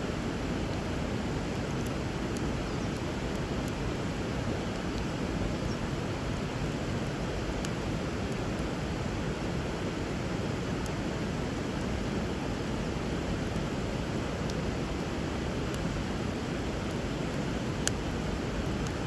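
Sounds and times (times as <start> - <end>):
river water flowing: 0.0 - 19.0
wood fire crackling: 0.0 - 19.0.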